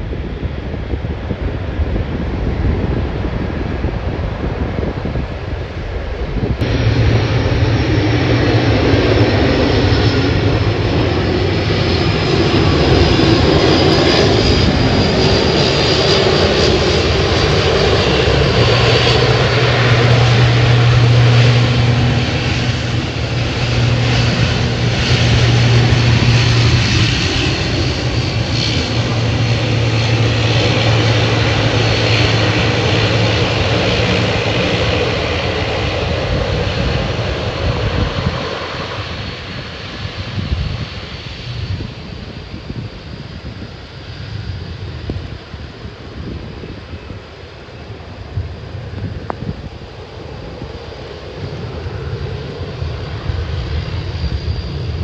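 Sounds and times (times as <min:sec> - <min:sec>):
airliner engines running: 0:00.0 - 0:55.0
high engine whine: 0:00.0 - 0:55.0.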